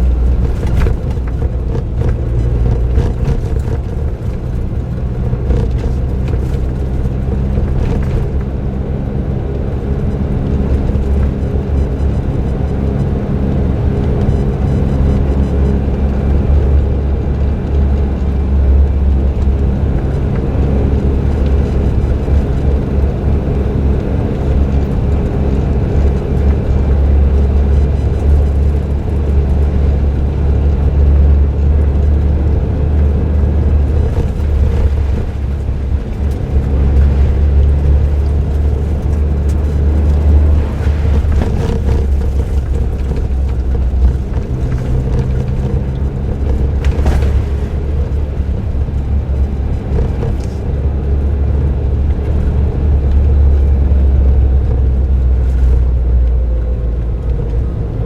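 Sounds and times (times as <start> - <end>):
car engine droning while driving: 0.0 - 58.0
tyre and road noise: 0.0 - 58.0.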